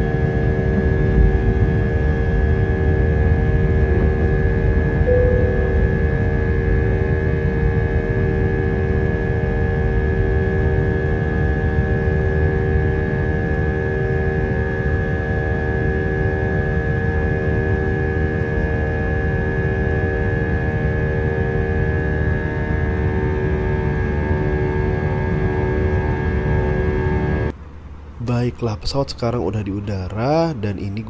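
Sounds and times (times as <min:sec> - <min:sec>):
jet engines rumbling and whining: 0:00.0 - 0:31.0.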